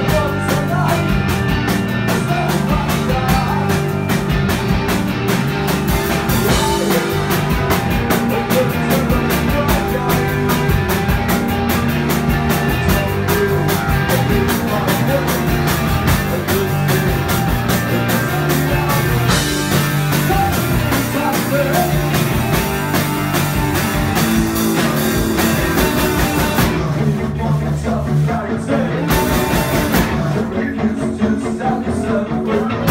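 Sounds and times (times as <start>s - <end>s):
person singing: 0.0s - 1.3s, 2.0s - 4.1s, 6.2s - 23.5s, 24.3s - 32.9s
bass guitar: 0.0s - 32.9s
drum kit: 0.0s - 32.9s
electric guitar: 0.0s - 32.9s.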